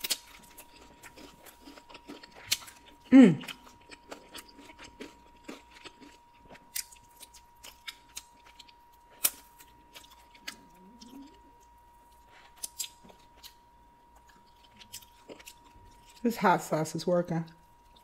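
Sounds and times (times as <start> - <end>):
chewing meat: 0.0 - 16.3, 17.5 - 18.0.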